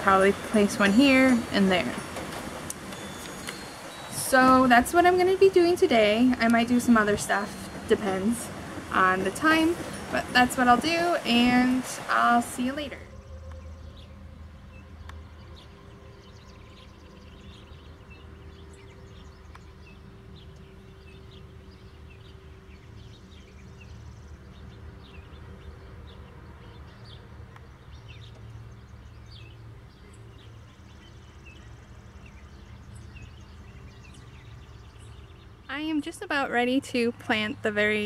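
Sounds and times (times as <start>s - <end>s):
low steady rumble: 0.0s - 38.0s
small birds chirping: 0.0s - 38.0s.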